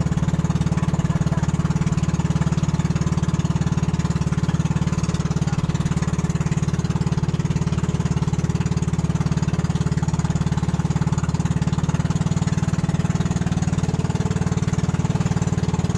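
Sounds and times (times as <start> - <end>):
boat engine running: 0.0 - 15.9.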